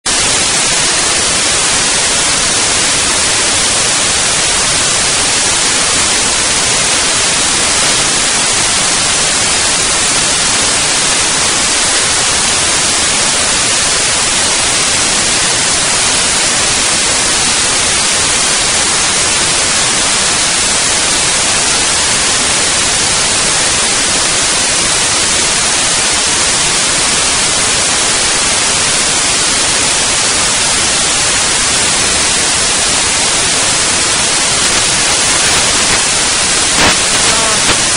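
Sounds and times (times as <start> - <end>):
loud steady hiss: 0.0 - 37.9.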